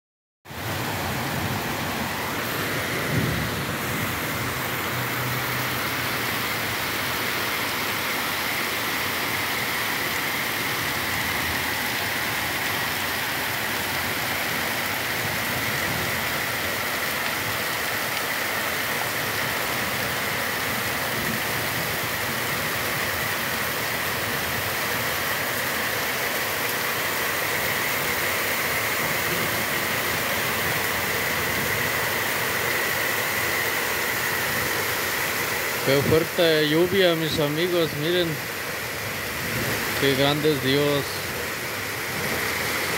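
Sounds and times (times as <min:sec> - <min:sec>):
heavy rain on roofs: 0:00.5 - 0:42.9.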